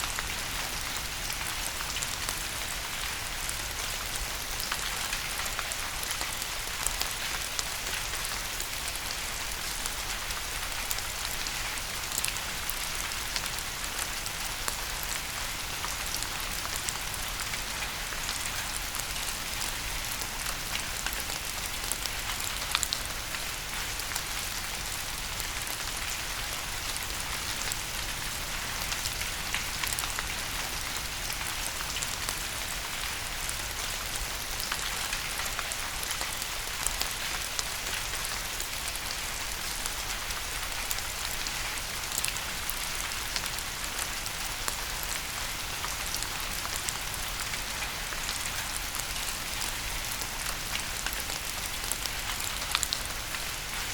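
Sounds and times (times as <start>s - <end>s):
rain falling on a surface: 0.0s - 53.9s.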